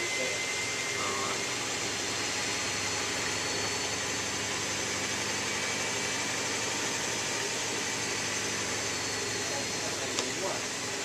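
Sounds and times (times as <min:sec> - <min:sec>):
motor whine: 0:00.0 - 0:11.0.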